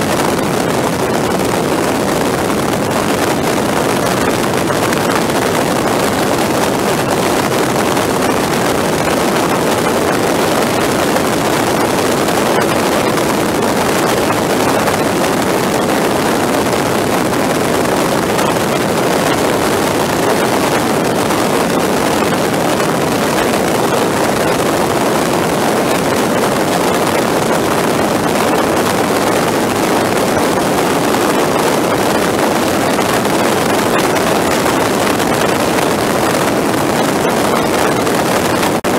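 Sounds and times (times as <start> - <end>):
rush of wind: 0.0 - 38.9.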